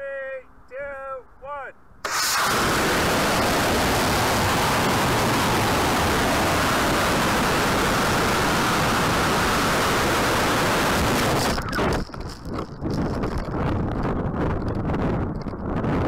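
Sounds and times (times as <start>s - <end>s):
wind blowing across microphone: 2.0s - 16.0s.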